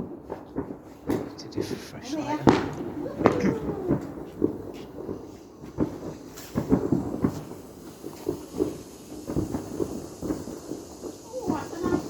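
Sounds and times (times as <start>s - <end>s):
fireworks dull bangs: 0.0s - 12.0s.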